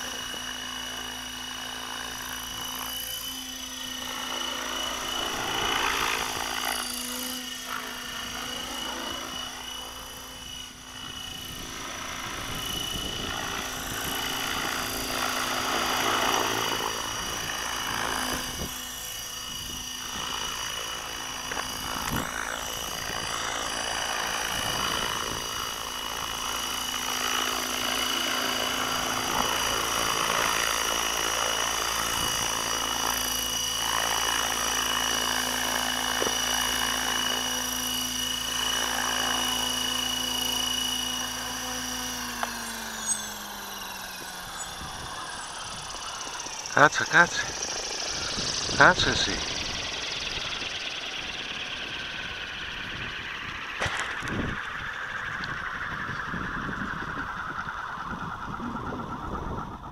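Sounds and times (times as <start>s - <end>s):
electric motor whine: 0.0s - 59.9s.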